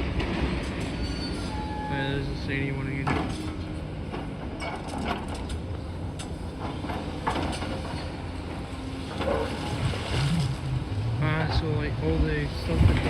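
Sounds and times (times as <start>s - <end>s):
diesel excavator running: 0.0s - 13.0s.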